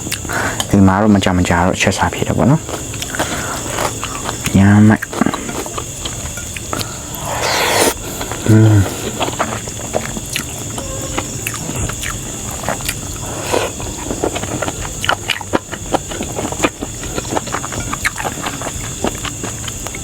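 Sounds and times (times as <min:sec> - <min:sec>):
person chewing and lip-smacking: 0:00.0 - 0:00.7, 0:02.7 - 0:20.0
steady hiss: 0:00.0 - 0:19.1.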